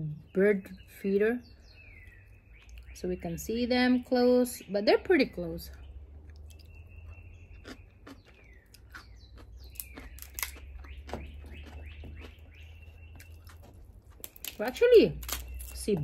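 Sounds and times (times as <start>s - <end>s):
songbirds chirping and whistling: 0.0s - 16.0s.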